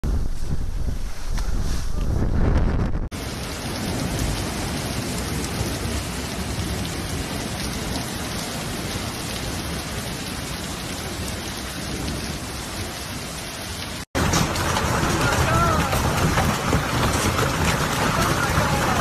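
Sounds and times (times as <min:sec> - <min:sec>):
heavy rain and hail pelting: 0:02.0 - 0:19.0.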